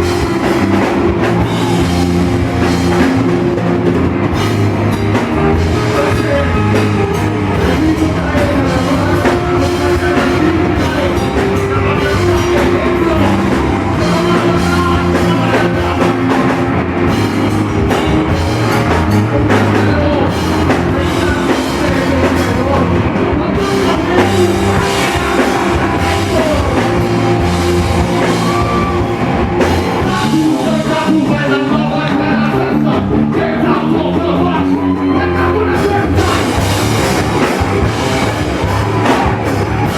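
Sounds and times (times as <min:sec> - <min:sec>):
drum kit: 0:00.0 - 0:39.9
loud rock music: 0:00.0 - 0:39.9
person singing: 0:05.0 - 0:39.9.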